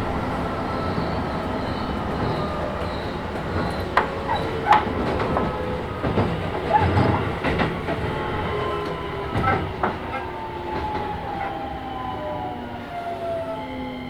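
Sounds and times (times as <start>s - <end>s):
electric train motor whine: 0.0s - 14.0s
train wheels clicking over rail joints: 0.0s - 14.0s.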